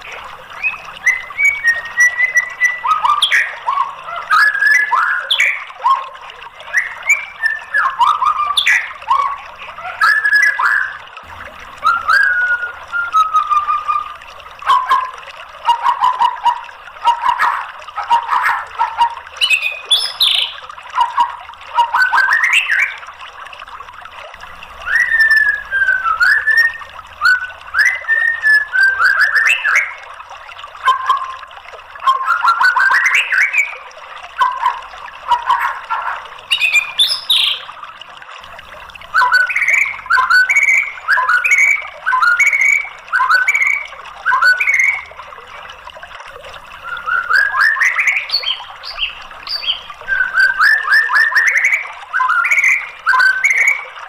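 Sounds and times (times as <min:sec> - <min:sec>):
bird singing whistled phrases: 0:00.0 - 0:11.0, 0:11.8 - 0:23.0, 0:24.8 - 0:30.0, 0:30.8 - 0:31.4, 0:32.0 - 0:33.8, 0:34.4 - 0:37.7, 0:39.1 - 0:45.1, 0:46.8 - 0:53.9.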